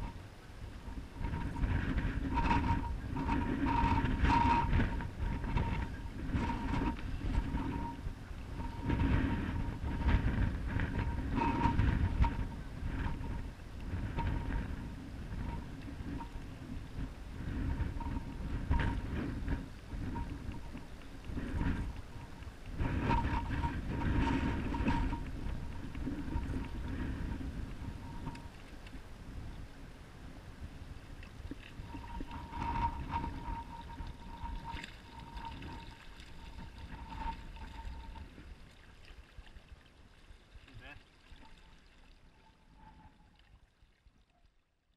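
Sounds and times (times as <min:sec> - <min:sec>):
wind buffeting the microphone: 0:00.0 - 0:39.7.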